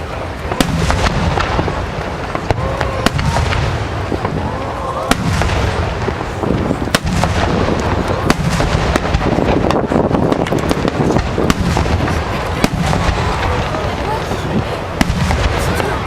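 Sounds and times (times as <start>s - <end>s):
fireworks cracks and bangs: 0.0s - 16.0s
low rumble of booms: 0.4s - 16.0s.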